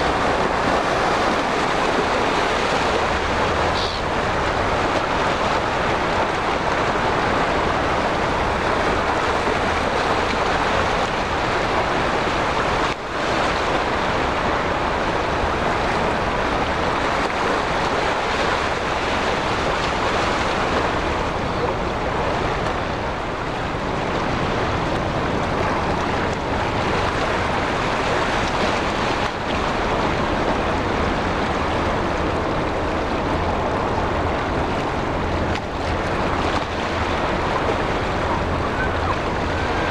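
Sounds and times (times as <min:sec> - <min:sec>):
sea waves at shoreline: 0:00.0 - 0:39.9
wind: 0:00.0 - 0:39.9
wind rumbling on microphone: 0:00.0 - 0:39.9.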